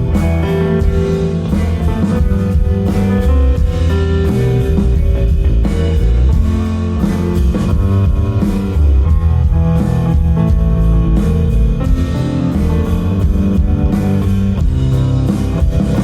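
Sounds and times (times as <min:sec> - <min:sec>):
electric guitar playing: 0:00.0 - 0:16.0
live band music: 0:00.0 - 0:16.0.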